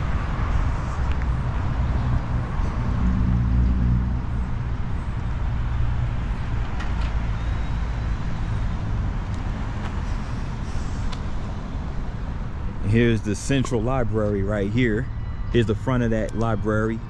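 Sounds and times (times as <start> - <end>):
vehicle engine running close by: 0.0 - 14.9
traffic rumble: 0.0 - 17.0.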